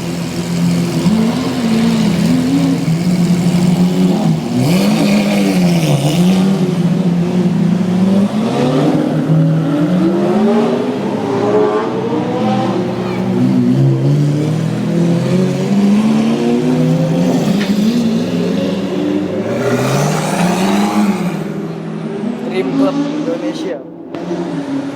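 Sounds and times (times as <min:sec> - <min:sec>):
sports car engine revving: 0:00.0 - 0:24.9.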